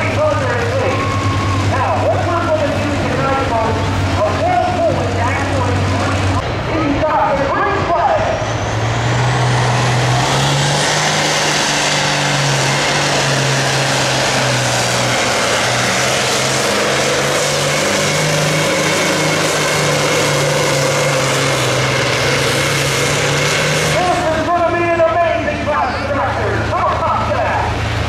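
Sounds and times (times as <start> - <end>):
diesel tractor engine at full power: 0.0 - 28.0.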